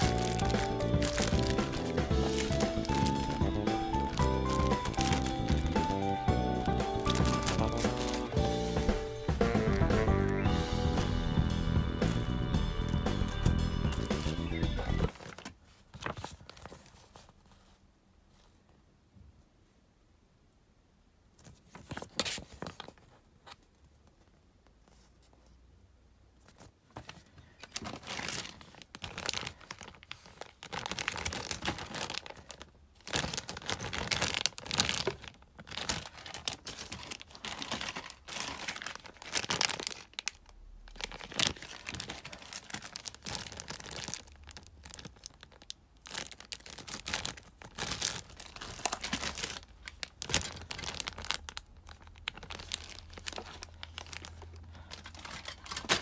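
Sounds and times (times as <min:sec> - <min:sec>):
plastic bags crinkling: 0:00.0 - 0:17.3, 0:26.6 - 0:56.0.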